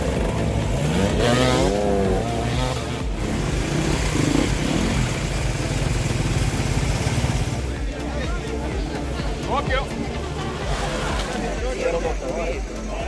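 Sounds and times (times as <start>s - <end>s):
dirt bike engines revving hard: 0.0s - 13.0s.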